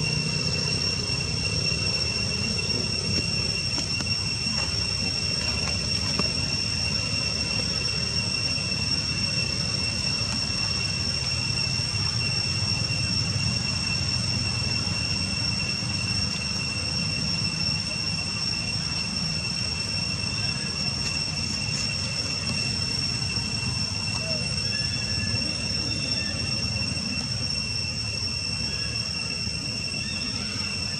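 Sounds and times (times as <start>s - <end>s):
high-pitched whine: 0.0s - 30.9s.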